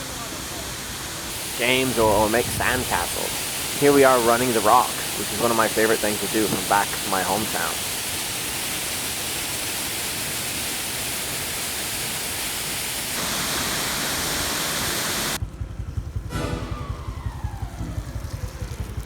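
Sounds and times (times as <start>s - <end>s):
waterfall roaring: 0.0s - 15.4s.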